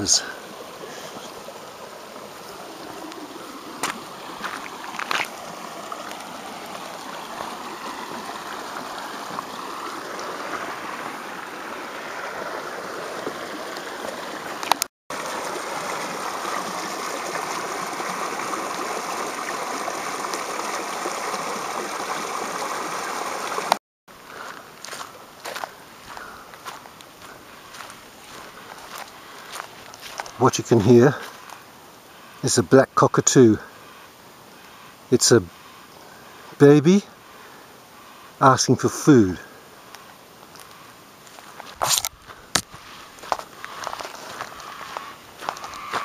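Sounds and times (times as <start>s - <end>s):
creek water trickling: 0.0s - 46.0s.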